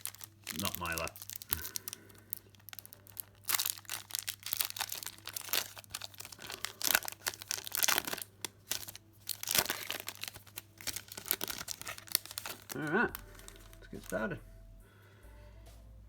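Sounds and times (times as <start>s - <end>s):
foil wrapper crinkling: 0.0s - 14.3s.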